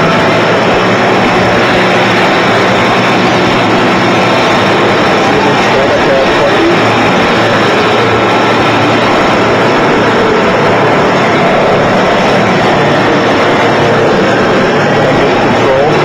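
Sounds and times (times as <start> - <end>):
faint steady tones: 0.0 - 16.0
machine tool droning: 0.0 - 16.0.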